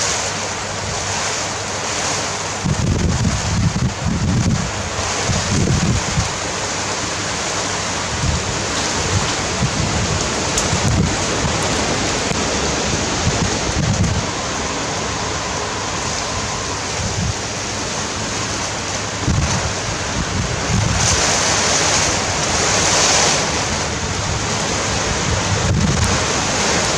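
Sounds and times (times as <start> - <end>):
strong gusting wind: 0.0 - 26.9
wind buffeting microphone: 2.6 - 6.6, 8.0 - 26.9.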